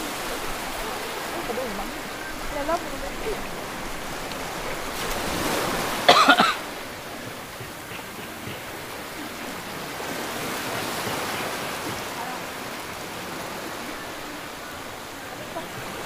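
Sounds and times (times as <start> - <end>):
sea water washing: 0.0 - 16.0
wind: 0.0 - 16.0.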